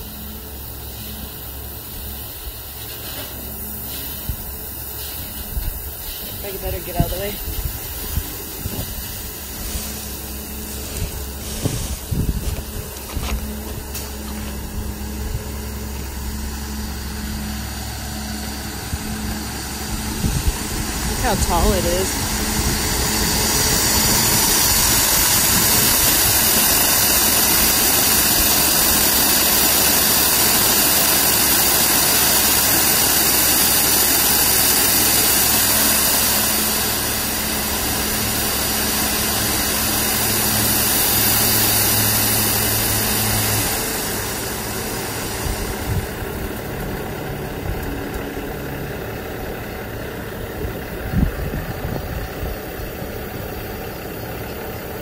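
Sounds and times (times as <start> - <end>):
diesel engine running: 0.0 - 55.0
loud rushing hiss: 0.0 - 55.0.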